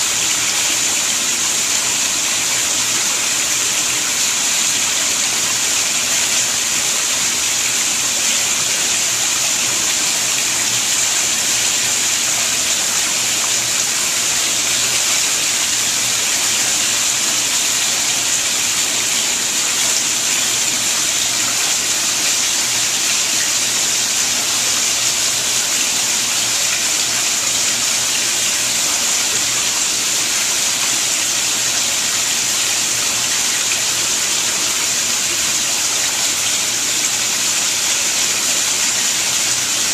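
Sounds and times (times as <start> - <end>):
pond water running and splashing: 0.0 - 39.9.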